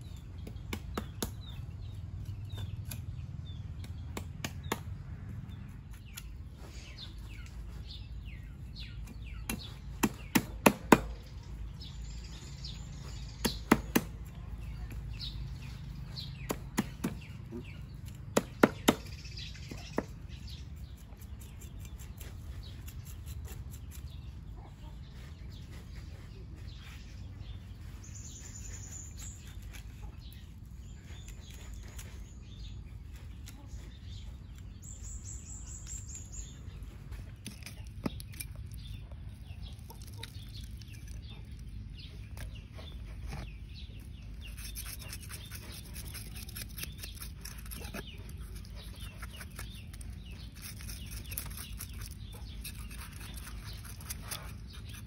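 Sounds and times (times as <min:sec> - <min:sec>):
birds chirping faintly: 0:00.0 - 0:55.0.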